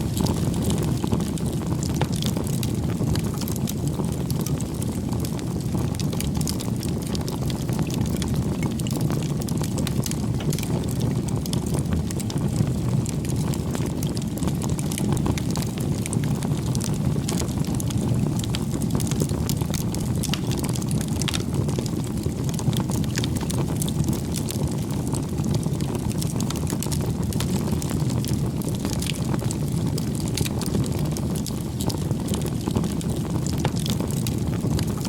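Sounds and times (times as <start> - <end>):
bonfire flames rushing: 0.0 - 35.0
burning wood crackling: 0.0 - 35.0.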